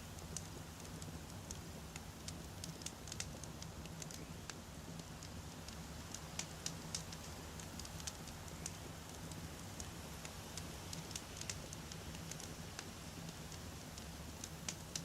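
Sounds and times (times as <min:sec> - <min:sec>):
campfire crackling and popping: 0:00.0 - 0:15.0
low rumble of burning fire: 0:00.0 - 0:15.0.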